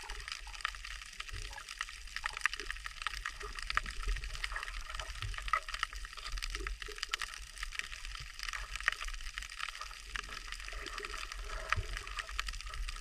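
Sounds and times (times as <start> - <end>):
dense crackle of clicks: 0.0 - 13.0
sea water moving: 0.0 - 13.0.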